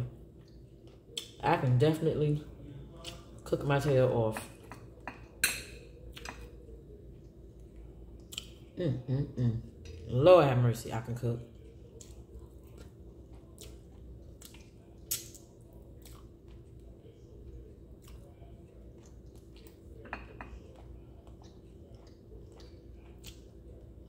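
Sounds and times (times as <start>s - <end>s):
chewing and wet mouth sounds: 0.0s - 1.5s, 2.6s - 3.7s, 4.4s - 8.8s, 9.7s - 10.2s, 11.4s - 24.0s
steady low hum: 0.0s - 24.0s.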